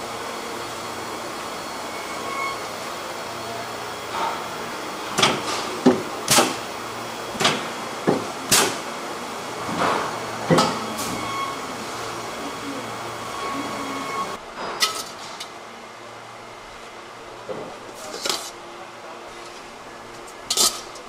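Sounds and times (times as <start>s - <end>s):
factory hum: 0.0s - 21.0s.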